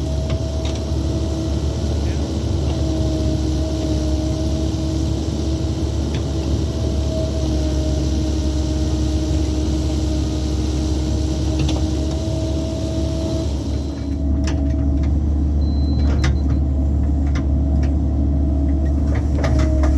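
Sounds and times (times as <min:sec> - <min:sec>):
excavator diesel engine: 0:00.0 - 0:19.9.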